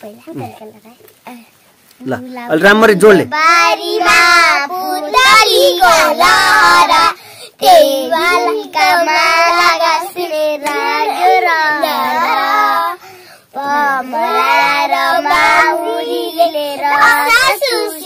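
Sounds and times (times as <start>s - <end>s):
girls singing together: 3.4s - 18.0s.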